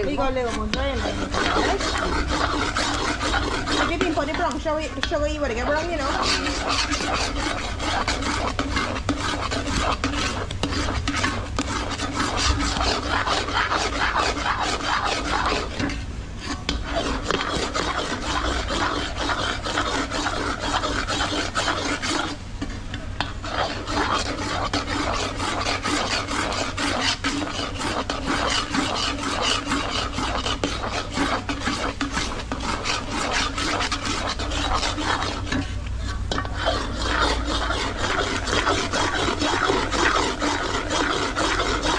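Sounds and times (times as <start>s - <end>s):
spoon scraping a pot: 0.0s - 41.9s.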